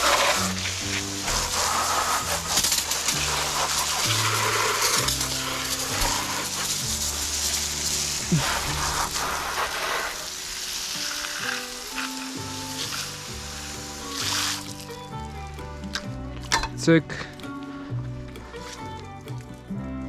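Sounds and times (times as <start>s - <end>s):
water running and splashing: 0.0s - 16.6s
background music with bass line: 0.0s - 20.0s.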